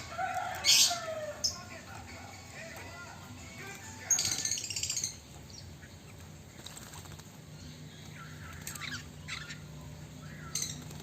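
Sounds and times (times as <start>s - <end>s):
low steady hum: 0.0s - 11.0s
songbird chirping: 0.0s - 11.0s.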